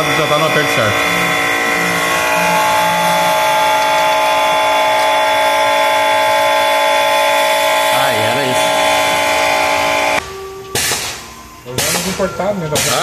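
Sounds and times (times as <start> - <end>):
machine whine: 0.0 - 13.0.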